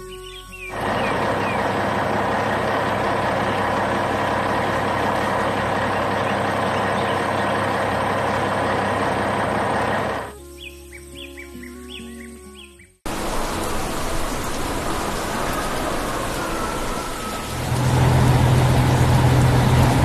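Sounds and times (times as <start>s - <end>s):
heavy construction vehicle engine: 0.7s - 10.3s, 13.1s - 20.0s.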